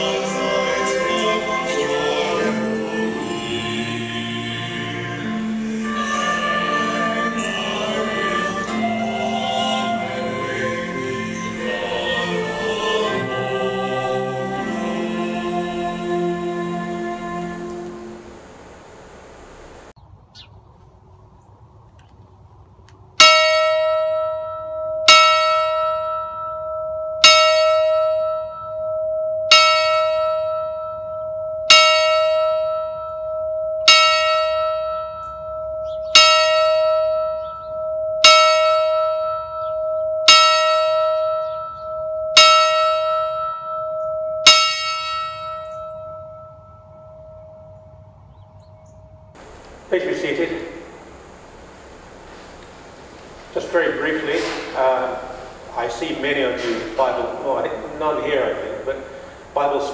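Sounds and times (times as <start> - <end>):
church bell tolling: 0.0 - 4.1, 4.7 - 19.6, 23.2 - 48.2, 49.4 - 59.9.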